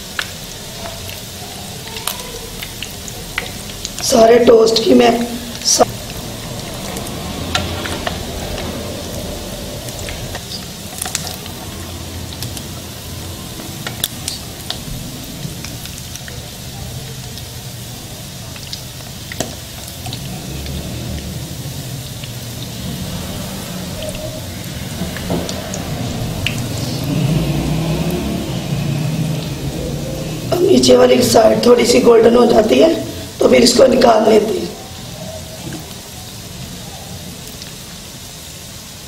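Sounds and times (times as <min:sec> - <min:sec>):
bread sizzling in hot oil: 0:00.0 - 0:39.0.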